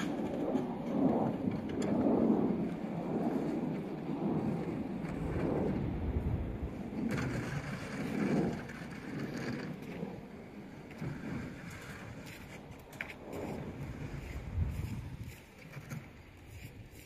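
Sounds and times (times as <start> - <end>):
snow plow rumble: 0.0 - 17.0.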